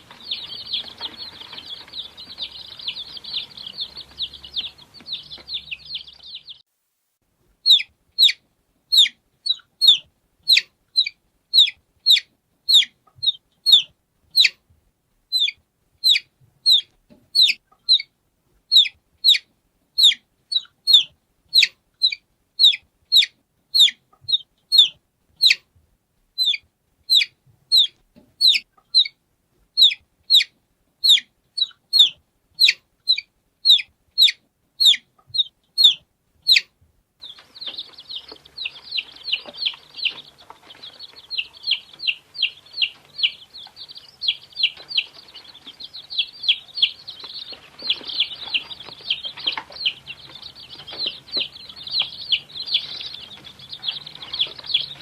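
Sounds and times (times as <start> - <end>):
chick peeping: 0.0 - 6.6, 7.6 - 14.6, 15.3 - 25.7, 26.4 - 55.0.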